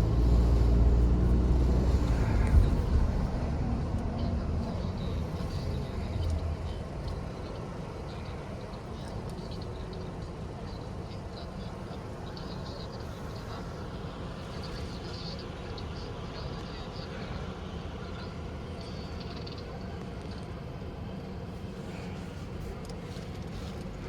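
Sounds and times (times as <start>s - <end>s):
car engine and road rumble: 0.0s - 17.0s, 20.0s - 24.0s.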